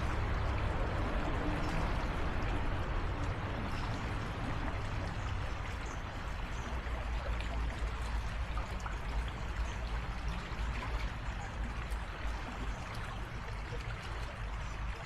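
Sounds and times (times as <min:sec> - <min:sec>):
creek water babbling: 0:00.0 - 0:15.0.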